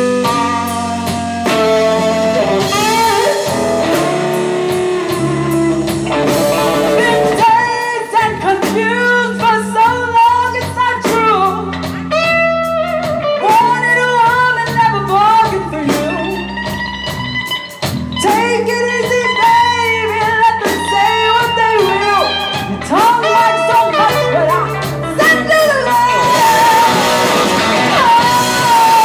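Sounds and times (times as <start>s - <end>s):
person singing: 0.0s - 12.4s, 13.0s - 17.0s, 18.2s - 29.0s
blues-rock band music: 0.0s - 29.0s
guitar melody: 0.0s - 29.0s.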